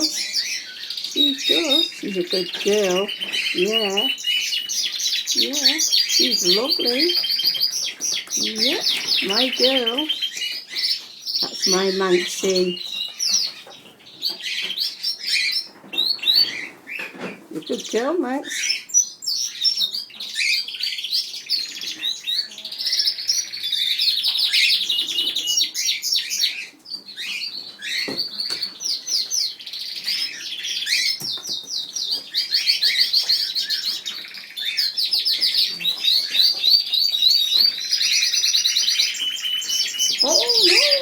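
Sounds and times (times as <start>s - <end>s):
flock of birds chirping and singing: 0.0s - 41.0s.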